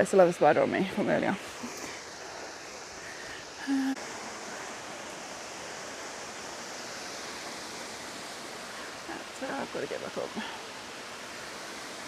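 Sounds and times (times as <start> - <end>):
waterfall rushing: 1.4 - 12.0.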